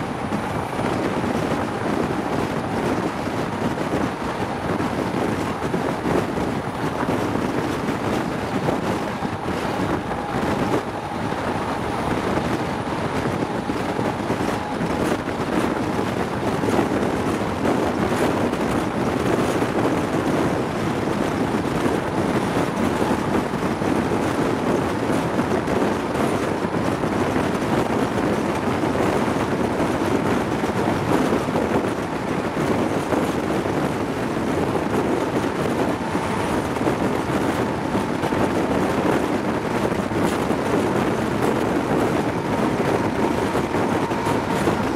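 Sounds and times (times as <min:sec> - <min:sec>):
train running on rails: 0:00.0 - 0:44.9
wind rushing over microphone: 0:00.0 - 0:44.9.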